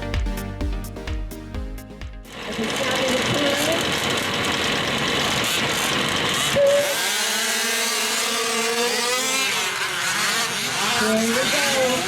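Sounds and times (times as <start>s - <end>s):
small two-stroke engines revving: 2.3s - 12.0s.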